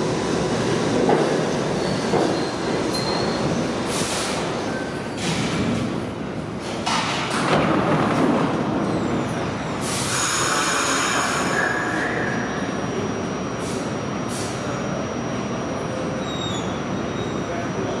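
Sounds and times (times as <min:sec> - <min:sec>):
subway train stopping: 0:00.0 - 0:18.0.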